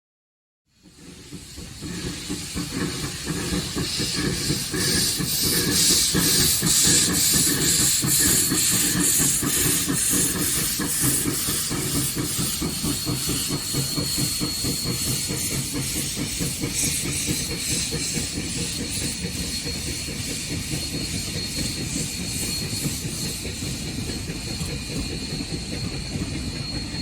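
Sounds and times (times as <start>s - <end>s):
hissing steam: 0.7s - 27.0s
steam locomotive chuffing: 0.7s - 27.0s.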